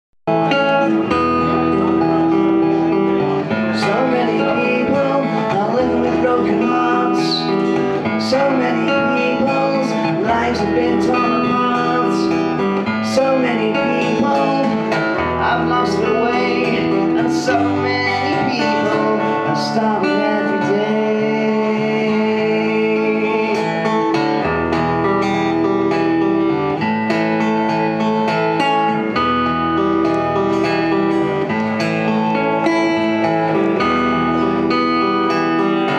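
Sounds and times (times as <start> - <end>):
acoustic guitar strumming chords: 0.3 - 35.9.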